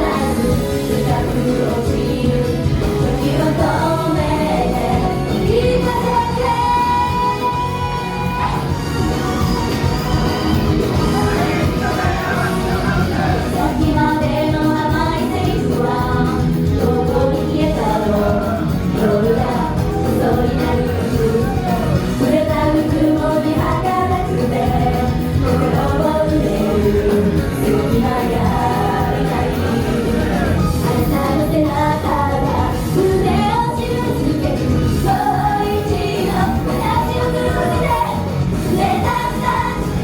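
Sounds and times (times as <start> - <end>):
women singing together: 0.0 - 8.8, 10.9 - 40.0
loud backing track: 0.0 - 40.0.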